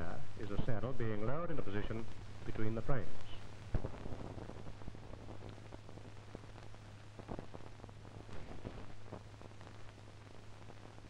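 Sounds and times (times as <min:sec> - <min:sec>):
crackles and pops: 0:00.0 - 0:11.0.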